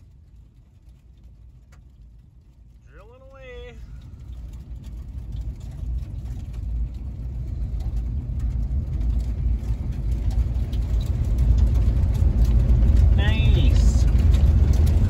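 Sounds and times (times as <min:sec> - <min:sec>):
low engine rumble inside cab: 0:00.0 - 0:15.0.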